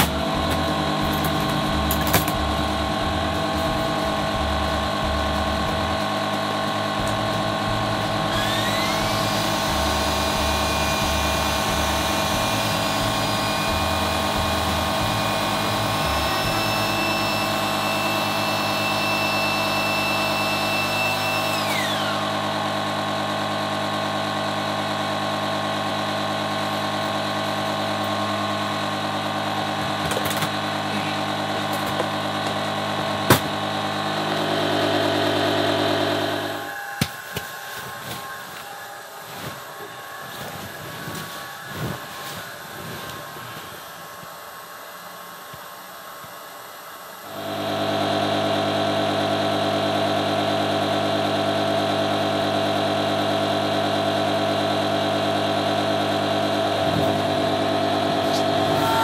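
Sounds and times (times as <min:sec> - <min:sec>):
electric air pump motor hum: 0:00.0 - 0:59.0
high-pitched whine: 0:00.0 - 0:59.0.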